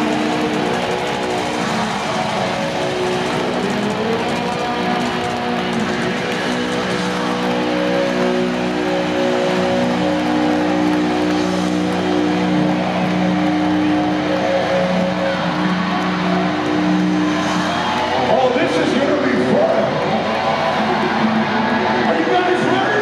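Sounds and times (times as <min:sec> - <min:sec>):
distorted electric guitars: 0:00.0 - 0:23.0
drums: 0:00.0 - 0:23.0.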